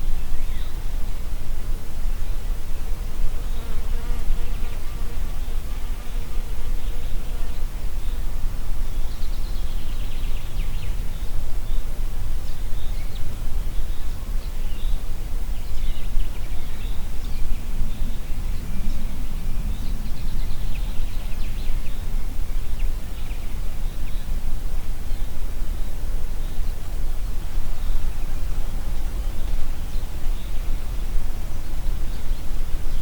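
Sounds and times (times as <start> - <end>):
wind blowing through trees: 0.0 - 33.0
songbirds chirping: 3.4 - 33.0.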